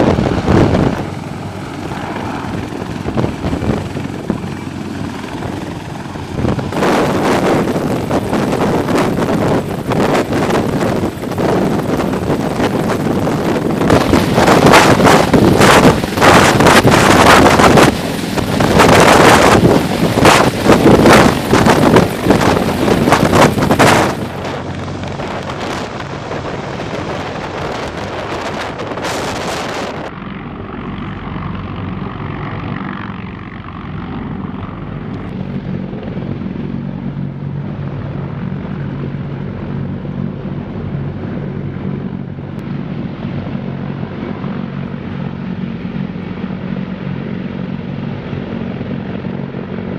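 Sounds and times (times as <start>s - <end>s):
helicopter rotors droning: 0.0s - 49.9s
rotor downwash buffeting microphone: 0.0s - 49.9s.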